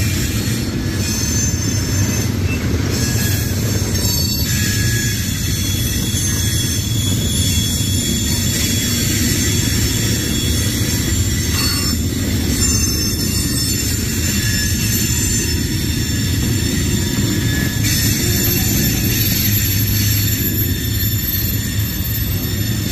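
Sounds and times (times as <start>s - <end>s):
freight train rumbling past: 0.0s - 22.9s
high wheel squeal: 0.0s - 22.9s.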